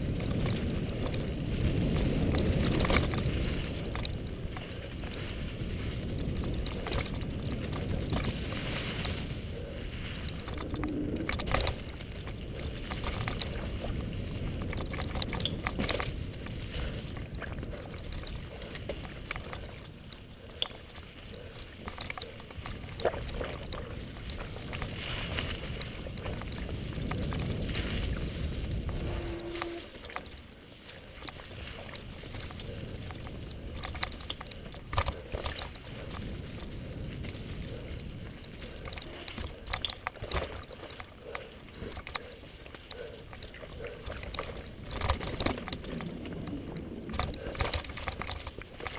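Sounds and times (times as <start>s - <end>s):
bike clicks and rattles: 0.0s - 48.9s
bike tyres rolling on dirt trail: 0.0s - 48.9s
wind rumble on microphone: 0.0s - 48.9s.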